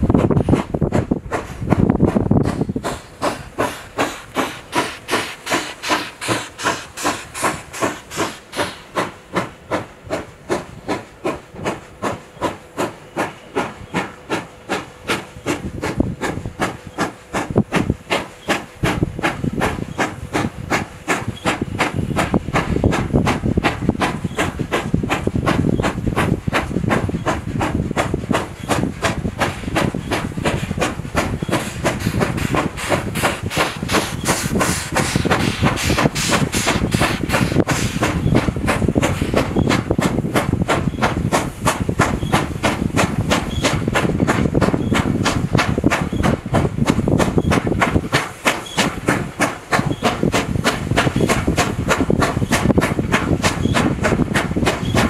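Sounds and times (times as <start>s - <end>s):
wind rumbling on microphone: 0.0s - 4.4s, 15.1s - 55.0s
steam locomotive exhaust chuffs: 0.0s - 55.0s.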